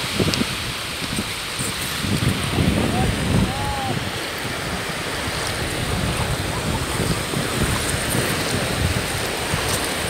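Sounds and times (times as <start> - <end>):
surf washing onto beach: 0.0 - 10.0
wind rumbling on microphone: 0.0 - 10.0.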